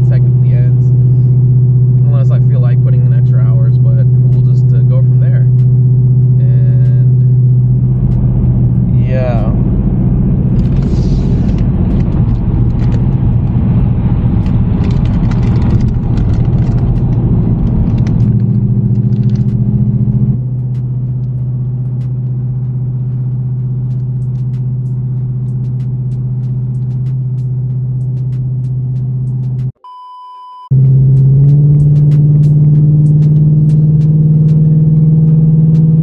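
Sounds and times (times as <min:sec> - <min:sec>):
tyre and road noise: 0:00.0 - 0:29.8, 0:30.7 - 0:36.0
car engine drone: 0:00.0 - 0:29.9, 0:30.7 - 0:36.0.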